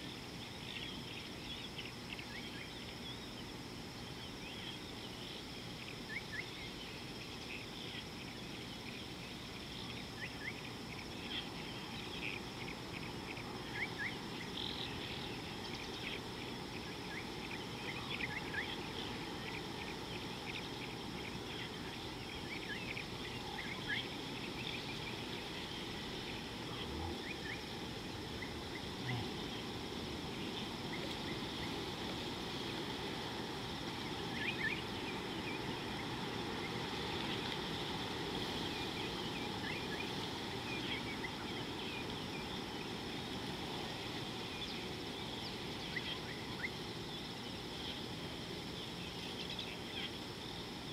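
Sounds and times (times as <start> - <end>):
insects droning: 0.0 - 50.9
low rushing water: 10.1 - 50.9.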